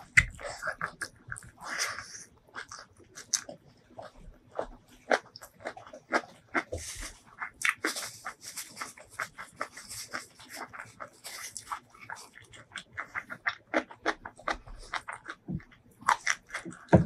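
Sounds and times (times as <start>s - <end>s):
wet chewing mouth clicks: 0.0s - 17.0s.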